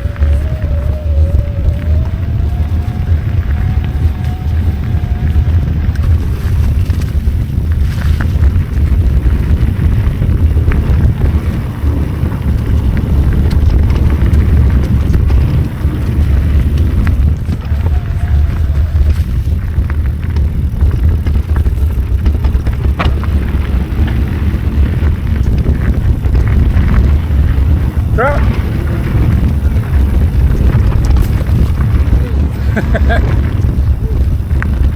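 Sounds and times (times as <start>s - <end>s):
bike tyre rumble: 0.0s - 34.9s
small clicks and rattles: 0.0s - 34.9s
wind buffeting on microphone: 0.0s - 34.9s.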